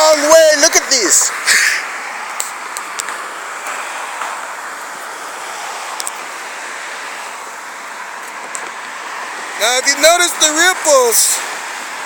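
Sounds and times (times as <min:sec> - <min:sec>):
rushing outdoor noise: 0:00.0 - 0:12.0.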